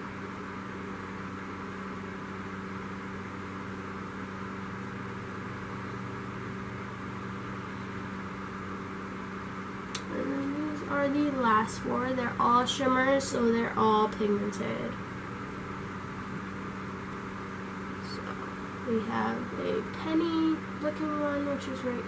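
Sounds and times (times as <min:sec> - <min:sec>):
constant hiss: 0:00.0 - 0:22.0
steady hum: 0:00.0 - 0:22.0.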